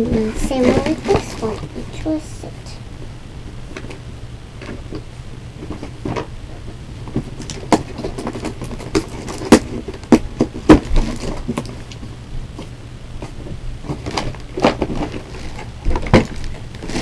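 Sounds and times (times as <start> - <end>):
plastic and cardboard crackling: 0.0 - 2.6, 3.5 - 17.0
low steady hum: 0.0 - 17.0.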